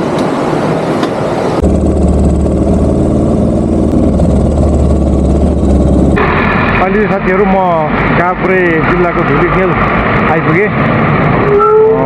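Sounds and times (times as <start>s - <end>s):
rushing noise: 0.0s - 12.0s.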